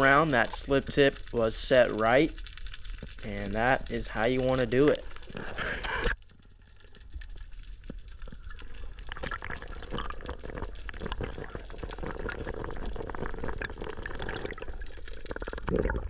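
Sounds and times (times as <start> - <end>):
small crackling clicks: 0.0 - 15.9
underwater bubbling: 0.0 - 16.0.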